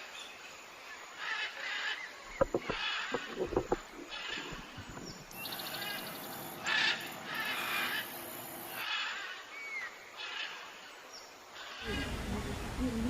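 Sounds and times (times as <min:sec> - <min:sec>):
bird calls: 0:01.2 - 0:11.0, 0:11.6 - 0:13.0.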